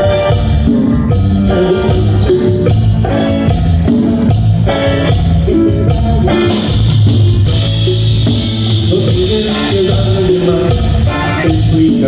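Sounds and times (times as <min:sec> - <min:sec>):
band playing instrumental: 0:00.0 - 0:12.0
drums: 0:00.0 - 0:12.0
melodic lead line: 0:00.0 - 0:12.0.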